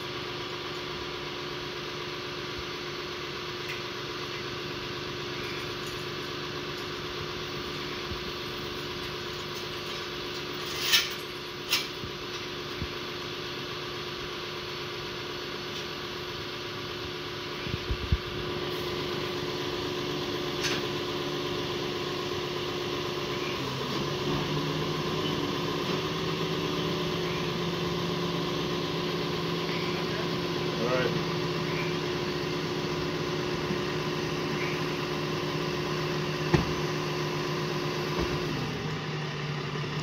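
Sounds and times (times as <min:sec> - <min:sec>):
tow truck engine idling: 0:00.0 - 0:40.0.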